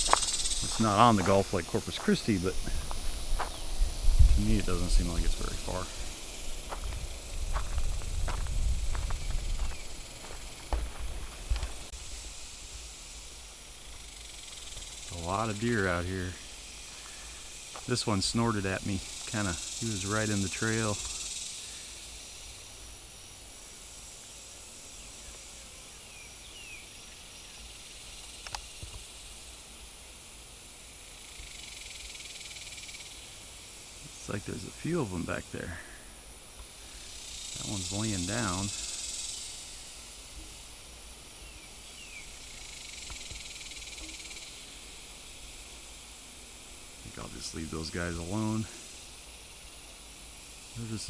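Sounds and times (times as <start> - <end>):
high-pitched insect drone: 0.0 - 51.0.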